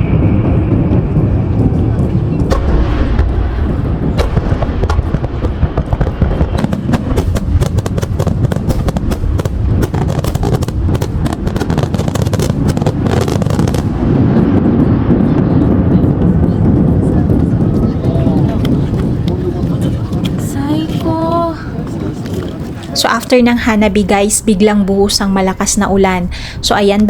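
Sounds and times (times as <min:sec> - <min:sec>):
fireworks crackling: 0:00.0 - 0:27.0
low rumble of fireworks bursts: 0:00.0 - 0:27.0.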